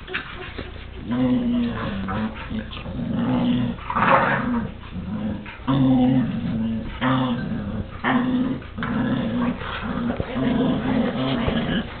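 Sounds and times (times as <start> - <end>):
dogs growling: 0.0 - 12.0.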